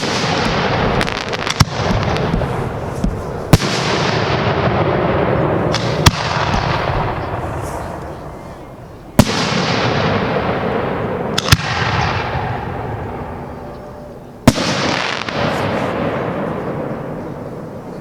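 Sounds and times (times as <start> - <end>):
fireworks crackling: 0.0 - 13.2, 14.5 - 17.2
fireworks bursting with bangs: 0.0 - 13.6, 14.4 - 17.7.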